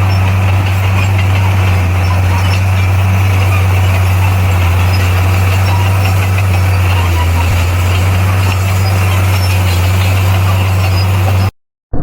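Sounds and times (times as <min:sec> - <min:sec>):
diesel engine droning: 0:00.0 - 0:11.6.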